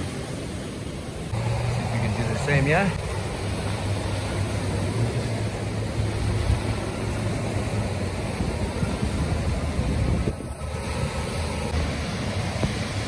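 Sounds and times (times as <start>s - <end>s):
outboard engine humming: 0.0s - 13.0s
surf rushing: 0.0s - 13.0s
wind buffeting microphone: 0.0s - 13.0s.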